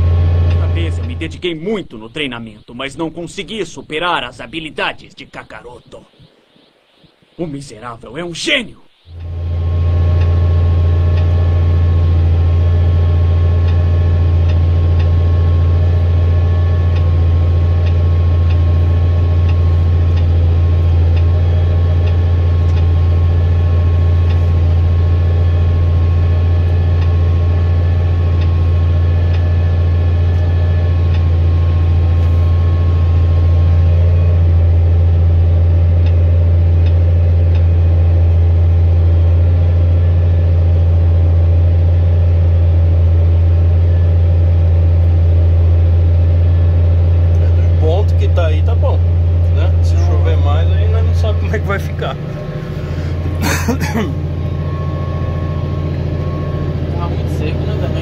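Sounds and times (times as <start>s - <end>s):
tractor engine drone: 0.0s - 7.8s, 8.8s - 58.0s
faint whine: 0.0s - 58.0s.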